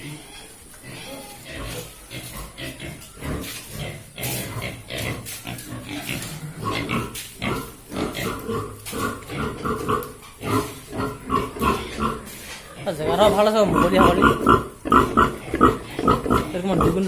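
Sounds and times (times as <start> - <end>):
pig grunt-squeals: 0.0 - 17.0
pigs grunting: 0.0 - 17.0.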